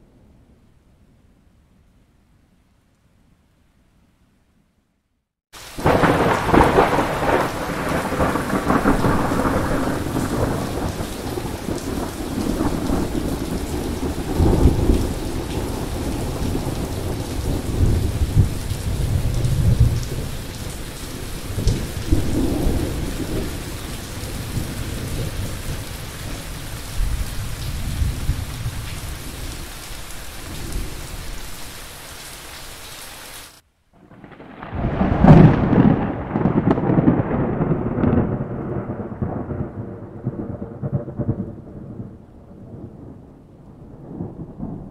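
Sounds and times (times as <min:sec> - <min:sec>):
steady rain: 0:05.5 - 0:44.9
thunder rumbling: 0:05.7 - 0:31.7, 0:34.0 - 0:44.9.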